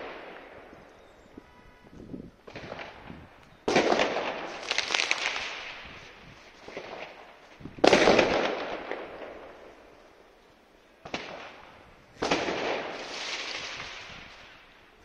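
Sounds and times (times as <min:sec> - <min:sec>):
firework crackling: 0:00.0 - 0:00.9, 0:02.3 - 0:15.0
fireworks bangs: 0:00.0 - 0:10.4, 0:11.0 - 0:15.0
echo off buildings: 0:00.0 - 0:15.0.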